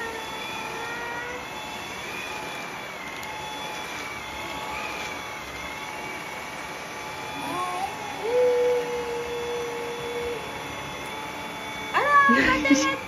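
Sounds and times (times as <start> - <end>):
vacuum cleaner whining: 0.0 - 13.0.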